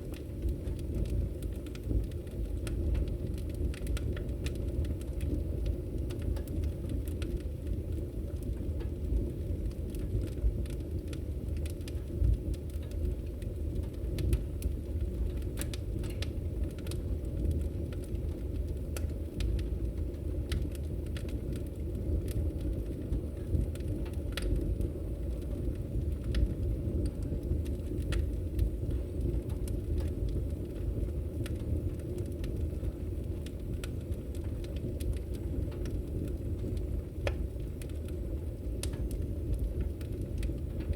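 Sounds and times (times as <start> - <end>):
fire popping and snapping: 0.0 - 40.9
low rush of flames: 0.0 - 40.9.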